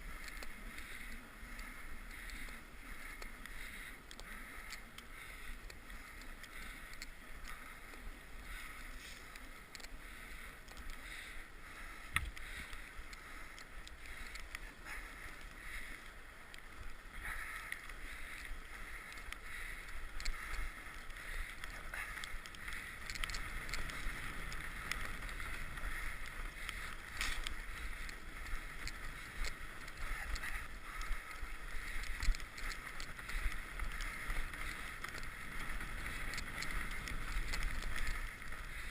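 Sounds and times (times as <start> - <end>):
bike tyres rolling on trail: 0.0 - 38.9
bike clicks and knocks: 0.1 - 38.9.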